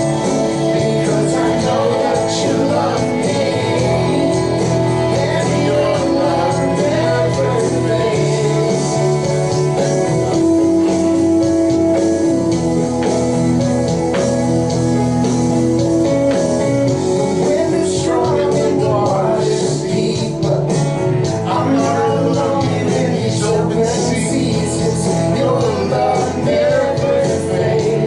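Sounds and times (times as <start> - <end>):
guitar: 0.0 - 28.0
worship band playing: 0.0 - 28.0.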